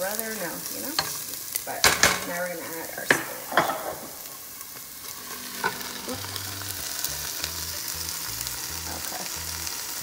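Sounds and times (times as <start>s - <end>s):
vegetables sizzling in a pot: 0.0s - 10.0s.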